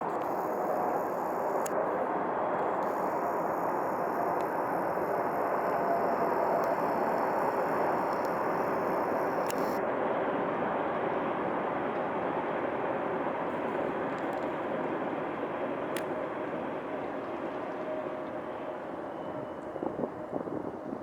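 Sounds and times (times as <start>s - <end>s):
jet airliner flying overhead: 0.0s - 21.0s.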